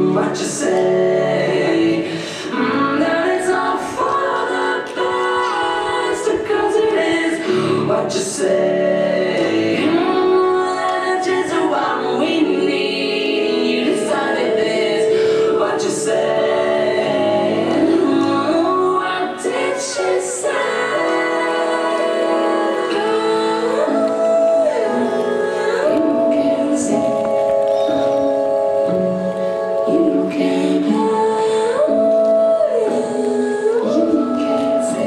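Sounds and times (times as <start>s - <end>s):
woman singing in close harmony: 0.0s - 35.0s.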